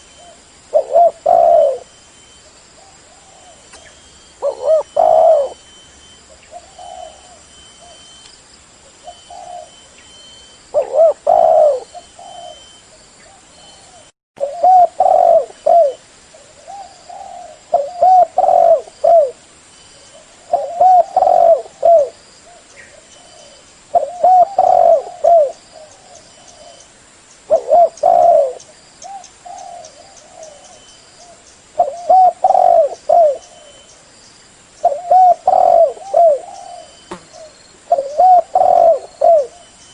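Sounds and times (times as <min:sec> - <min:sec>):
dove cooing: 0:00.0 - 0:01.9, 0:02.8 - 0:08.1, 0:09.0 - 0:09.9, 0:10.7 - 0:19.4, 0:20.0 - 0:26.8, 0:27.5 - 0:34.0, 0:34.8 - 0:39.8.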